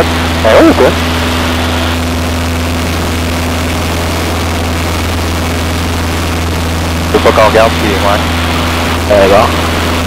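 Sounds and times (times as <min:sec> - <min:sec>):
propeller engine droning: 0:00.0 - 0:10.0.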